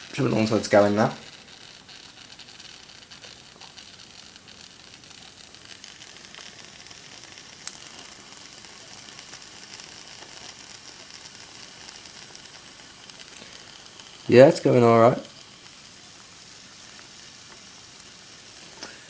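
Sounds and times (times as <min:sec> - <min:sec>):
faint crackling: 0:00.0 - 0:19.0
steam hissing: 0:00.0 - 0:19.0.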